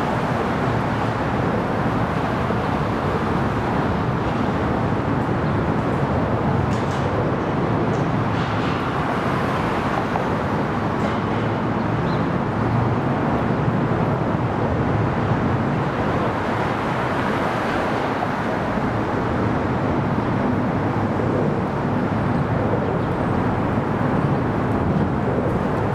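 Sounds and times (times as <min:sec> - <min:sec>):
city street traffic: 0:00.0 - 0:25.9.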